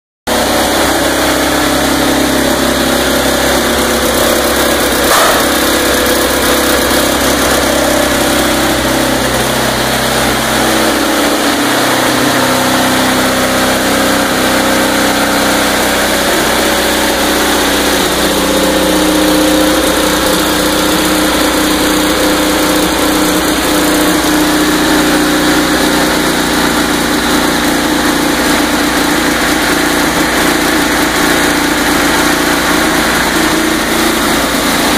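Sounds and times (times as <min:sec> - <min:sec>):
engine running steadily: 0:00.3 - 0:34.9.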